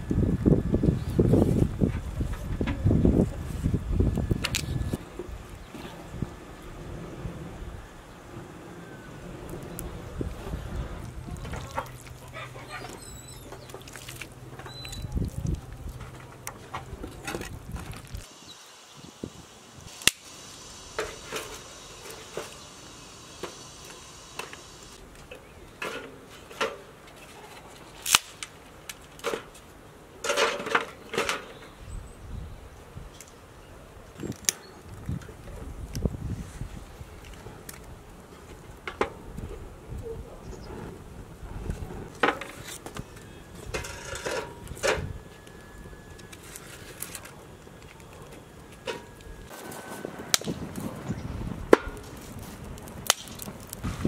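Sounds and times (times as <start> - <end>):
wood fire crackling: 0.0 - 30.0, 34.1 - 54.0.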